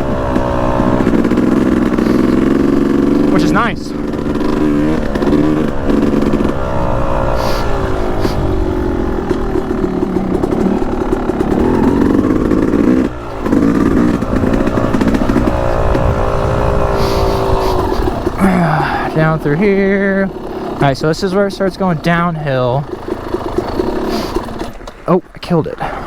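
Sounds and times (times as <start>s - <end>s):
two-stroke dirt bike engine: 0.0s - 26.0s.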